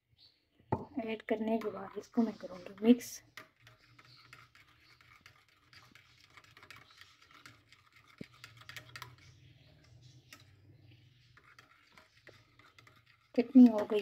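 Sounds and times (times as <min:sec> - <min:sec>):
metal spoon stirring in bowl: 0:01.0 - 0:14.0.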